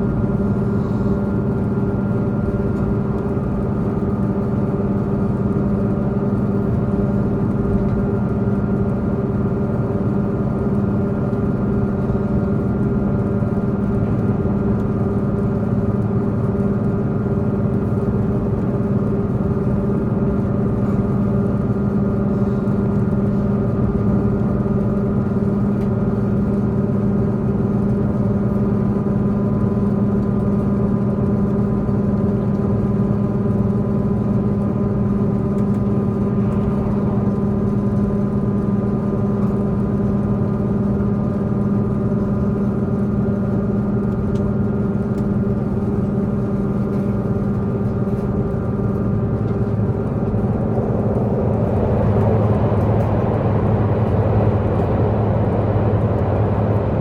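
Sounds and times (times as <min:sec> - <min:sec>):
diesel engine drone: 0:00.0 - 0:57.0
train running rumble: 0:00.0 - 0:57.0.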